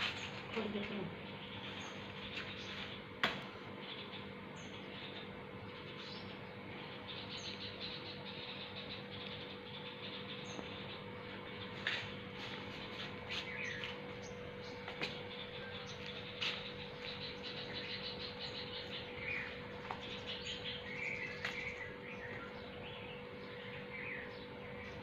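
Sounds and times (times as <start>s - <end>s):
birds chirping: 0.0s - 25.0s
steady hum: 0.0s - 25.0s.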